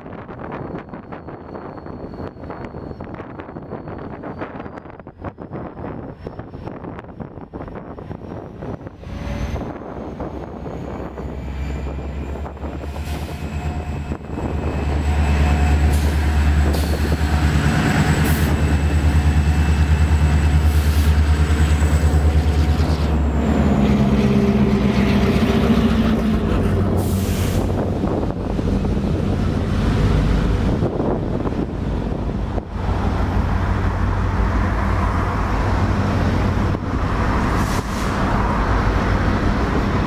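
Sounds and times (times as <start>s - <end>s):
diesel locomotive engines: 0.0s - 40.0s.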